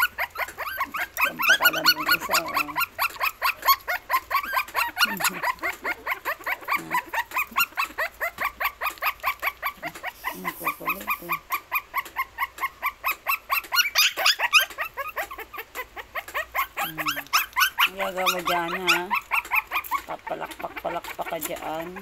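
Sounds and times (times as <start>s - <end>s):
puppies whimpering and yipping: 0.0s - 22.0s
puppy low growls: 0.0s - 22.0s.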